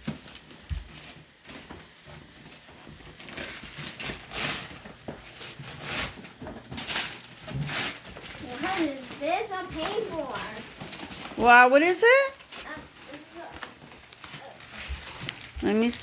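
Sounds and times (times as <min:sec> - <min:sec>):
wrapping paper rustling and tearing: 0:00.0 - 0:16.0.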